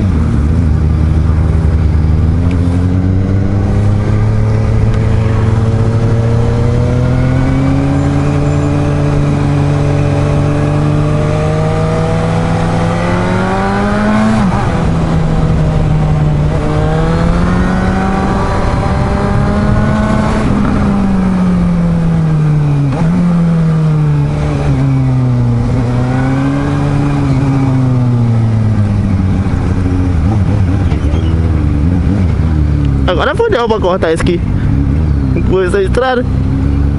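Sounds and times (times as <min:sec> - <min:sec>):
motorcycle engine accelerating: 0:00.0 - 0:36.9
road noise: 0:00.0 - 0:36.9
rushing wind: 0:00.0 - 0:36.9.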